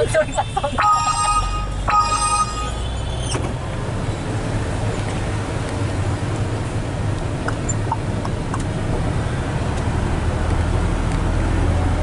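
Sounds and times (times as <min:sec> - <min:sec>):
truck diesel engine from cab: 0:00.0 - 0:12.0.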